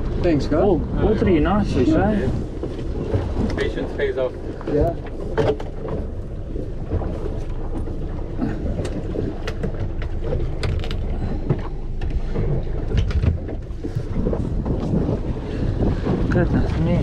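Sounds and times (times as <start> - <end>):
wind buffeting microphone: 0.0 - 17.0
knocks and clicks on boat: 2.3 - 17.0.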